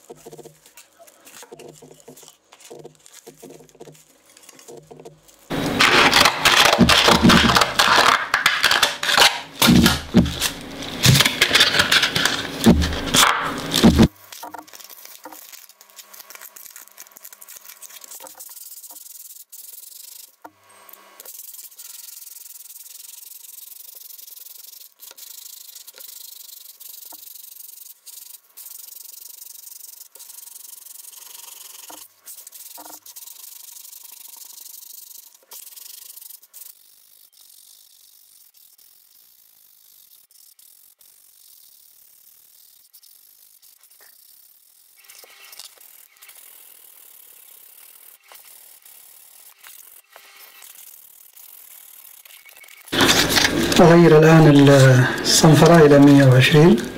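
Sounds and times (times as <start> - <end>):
sandpaper rubbing on wood: 0.0 - 20.4, 21.3 - 56.9
faint steady sanding hiss: 9.4 - 56.9.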